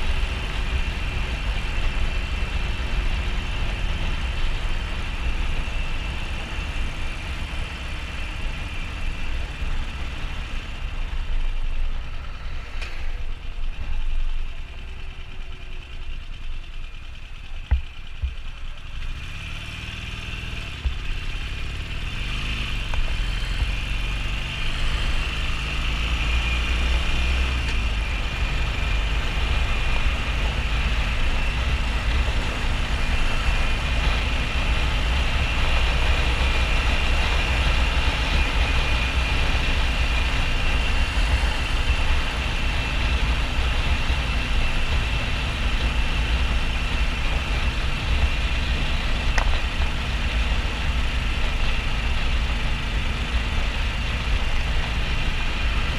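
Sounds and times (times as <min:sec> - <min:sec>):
motorcycle engine at speed: 0:00.0 - 0:55.9
wind and road rush: 0:00.0 - 0:55.9.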